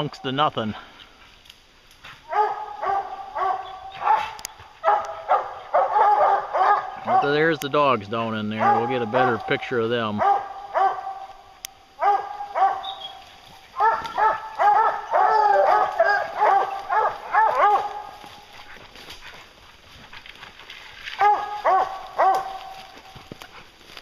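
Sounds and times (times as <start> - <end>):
hounds baying and barking: 2.0 - 24.0.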